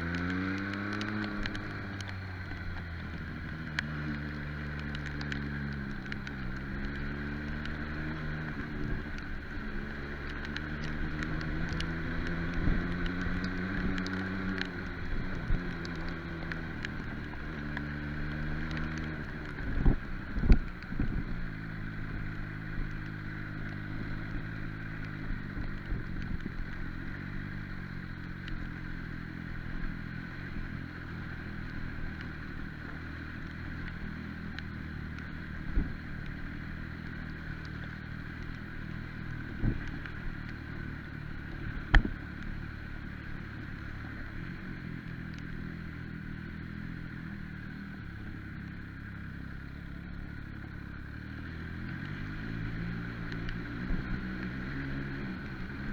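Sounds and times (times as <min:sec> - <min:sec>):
motorcycle engine running steadily: 0:00.0 - 0:55.9.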